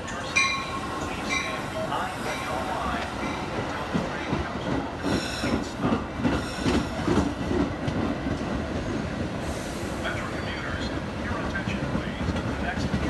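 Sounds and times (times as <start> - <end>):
train wheels clattering: 0.4 - 13.0.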